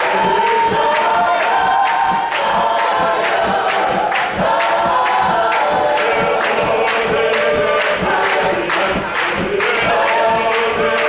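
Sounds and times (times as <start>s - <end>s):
congregation singing: 0.0s - 11.0s
hand claps: 0.0s - 11.0s.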